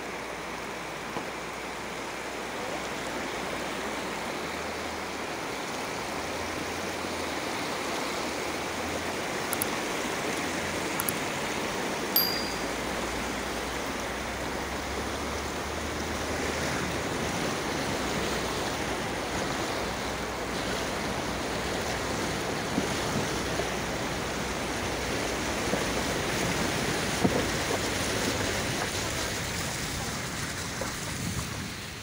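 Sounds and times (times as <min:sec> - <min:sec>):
floodwater rushing: 0:00.0 - 0:32.0.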